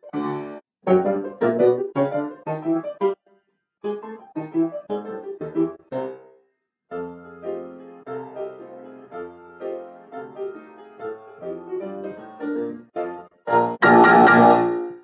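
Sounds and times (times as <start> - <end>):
grand piano playing ragtime: 0.0 - 3.2, 3.8 - 6.3, 6.9 - 15.0.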